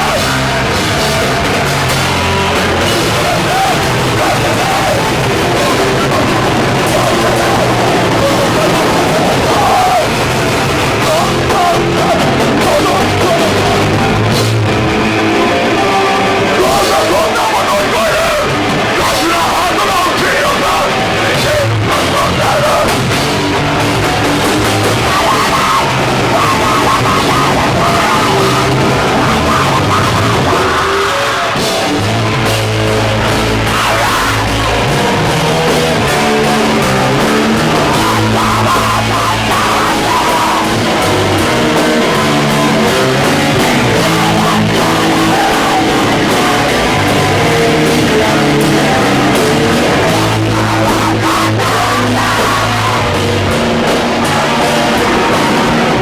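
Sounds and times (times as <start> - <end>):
hardcore band playing live: 0.0 - 56.0.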